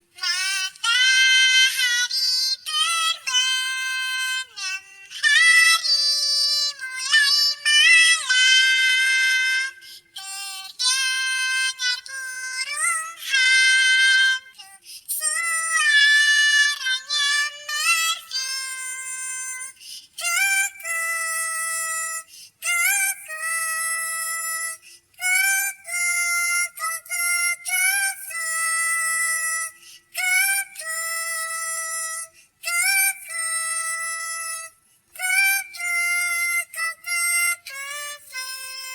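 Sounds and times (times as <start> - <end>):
high-pitched synthetic voice singing: 0.0 - 38.9.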